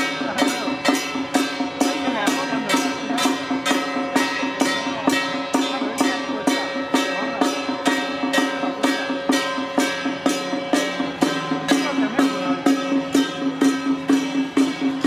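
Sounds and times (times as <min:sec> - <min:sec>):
drum and cymbal strokes: 0:00.0 - 0:15.0.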